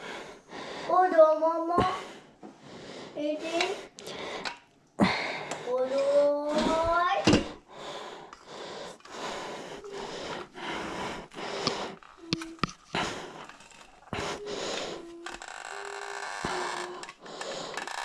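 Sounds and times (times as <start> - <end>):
heavy effortful breathing: 0.0 - 1.1, 1.8 - 18.0.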